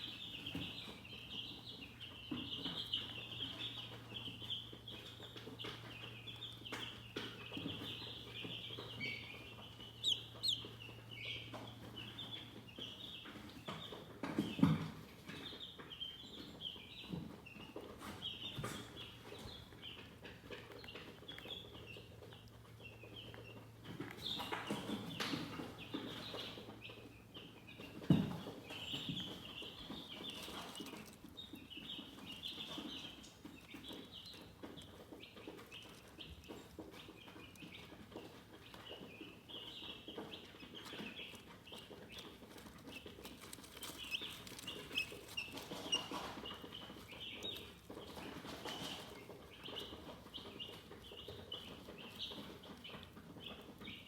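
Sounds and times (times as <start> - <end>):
chickens chirping: 0.0 - 54.0.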